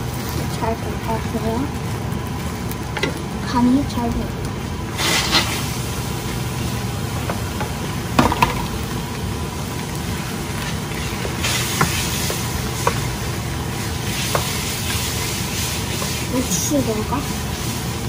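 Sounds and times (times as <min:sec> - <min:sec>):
rice sizzling in a pan: 0:00.0 - 0:18.0.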